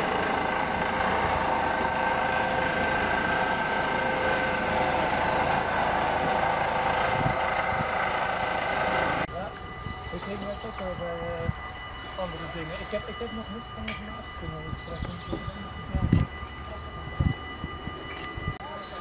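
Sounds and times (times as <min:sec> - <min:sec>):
motor drone with whining tones: 0:00.0 - 0:19.0.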